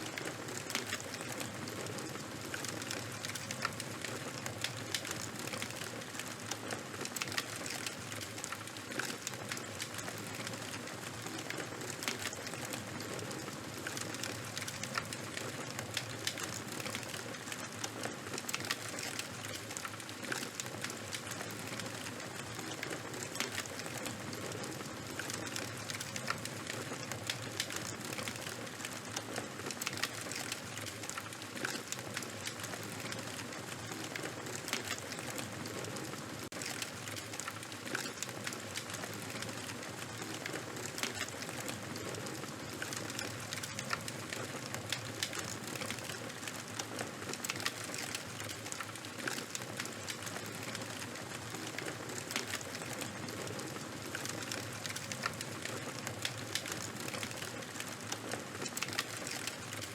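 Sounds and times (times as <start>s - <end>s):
charcoal fire hissing and crackling: 0.0s - 59.9s.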